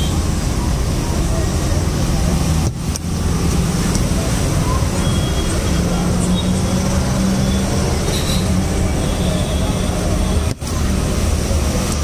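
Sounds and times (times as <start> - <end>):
street traffic din: 0.0 - 12.0.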